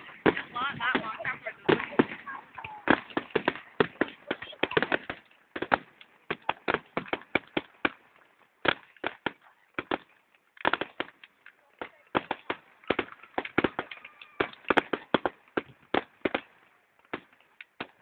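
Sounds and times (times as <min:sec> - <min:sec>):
fireworks bangs and cracks: 0:00.0 - 0:18.0.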